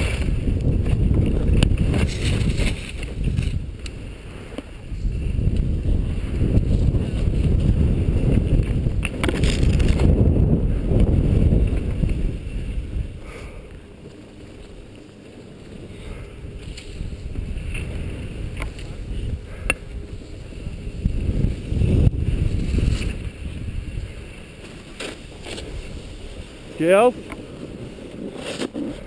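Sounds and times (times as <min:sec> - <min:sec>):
wind buffeting microphone: 0:00.0 - 0:14.0, 0:15.8 - 0:29.0
skis sliding on snow: 0:00.0 - 0:29.0.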